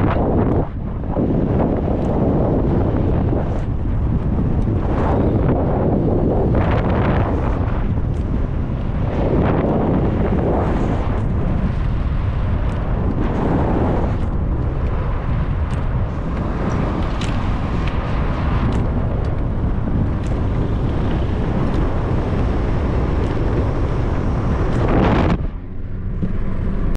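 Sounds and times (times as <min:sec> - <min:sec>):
moving car rumble: 0:00.0 - 0:26.9
wind buffeting microphone: 0:00.0 - 0:26.9.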